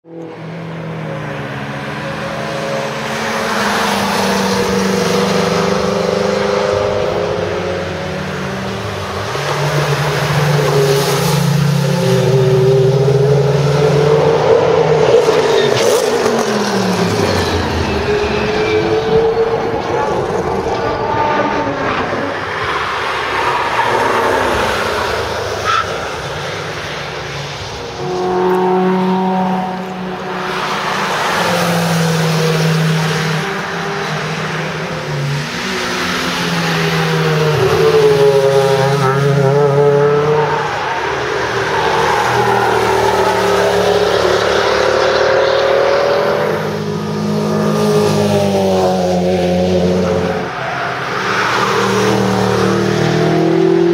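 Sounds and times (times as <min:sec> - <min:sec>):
race car engines passing: 0:00.0 - 0:53.9.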